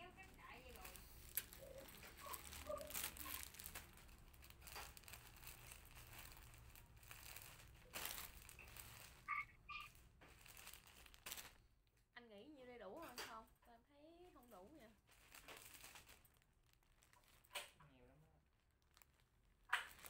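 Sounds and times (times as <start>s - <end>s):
rustling and crinkling: 0.0s - 11.7s, 12.6s - 20.0s.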